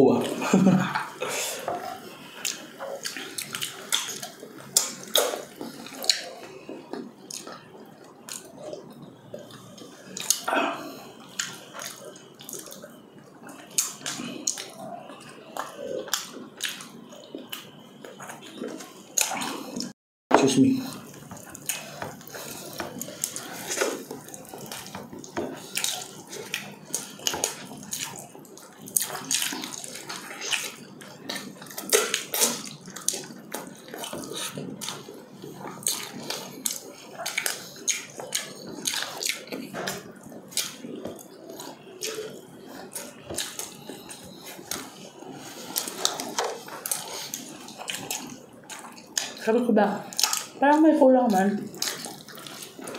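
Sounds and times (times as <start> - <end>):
people chewing and lip smacking: 0.0 - 52.9.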